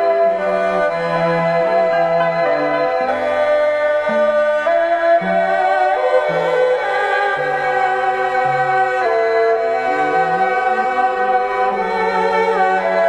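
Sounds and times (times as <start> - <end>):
slow melody over sustained chords: 0.0 - 12.9.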